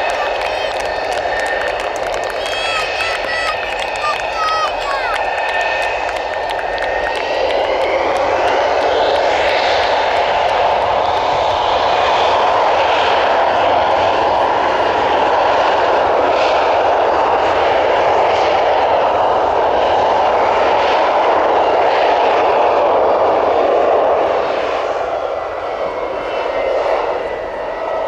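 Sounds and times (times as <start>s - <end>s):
jet engines taxiing: 0.0s - 28.0s.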